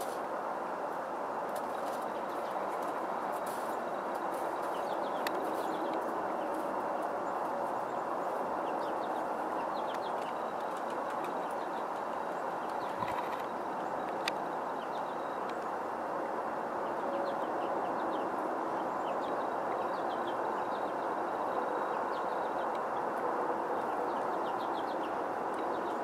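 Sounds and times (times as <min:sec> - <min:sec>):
steady rushing background noise: 0:00.0 - 0:26.0.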